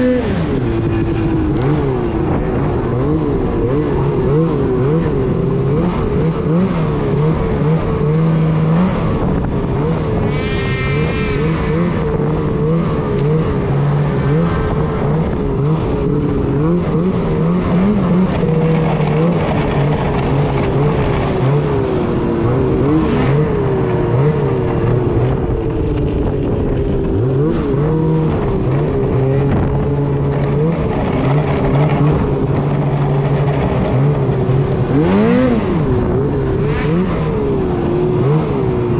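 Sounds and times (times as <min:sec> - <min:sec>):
high engine whine: 0:00.0 - 0:38.9
snowmobile engine running: 0:00.0 - 0:38.9.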